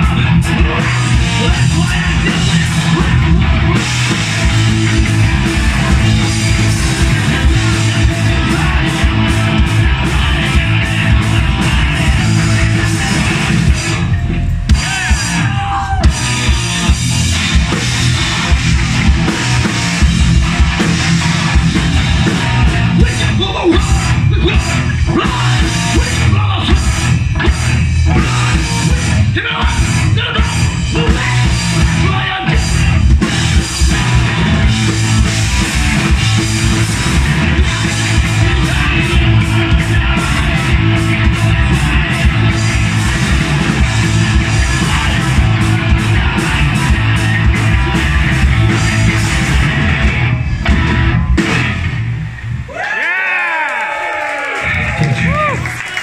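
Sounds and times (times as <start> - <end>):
rock band playing: 0.0 - 53.1, 54.5 - 56.0.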